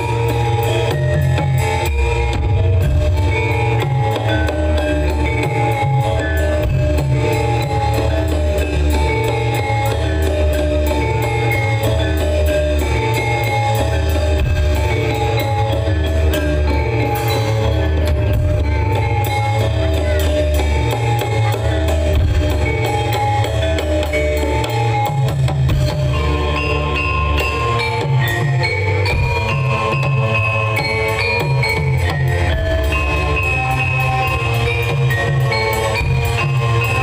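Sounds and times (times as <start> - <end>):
metal mallet instruments melody: 0.0 - 37.0
steady drum beat: 0.0 - 37.0.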